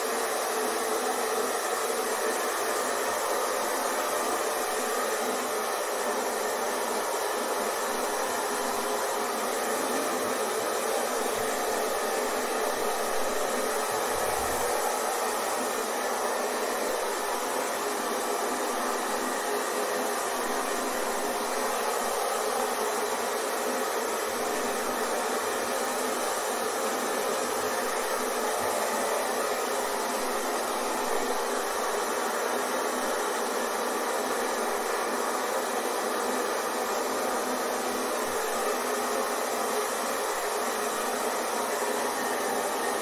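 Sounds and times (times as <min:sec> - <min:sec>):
hair dryer blowing: 0:00.0 - 0:43.0.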